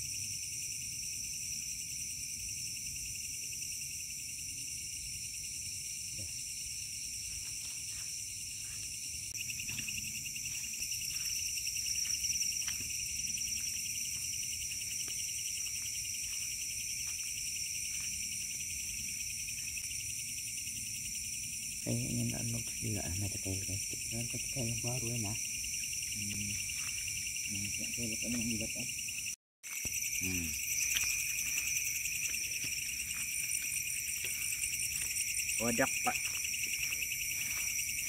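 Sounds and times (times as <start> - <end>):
crickets and insects chirping: 0.0 - 38.0
pulsing insect trill: 0.0 - 38.0.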